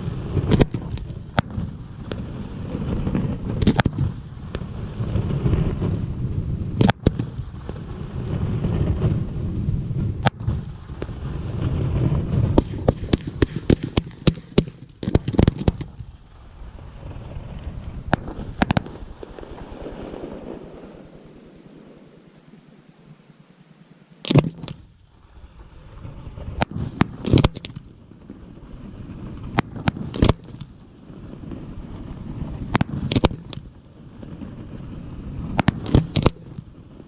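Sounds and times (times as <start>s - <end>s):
fireworks bursting with sharp bangs: 0.0s - 37.0s
low rumble of echoing explosions: 0.0s - 37.0s.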